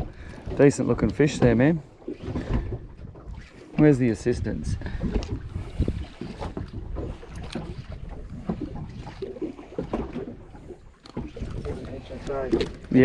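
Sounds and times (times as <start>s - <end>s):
water slapping against hull: 0.0s - 13.0s
wind buffeting microphone: 2.2s - 13.0s.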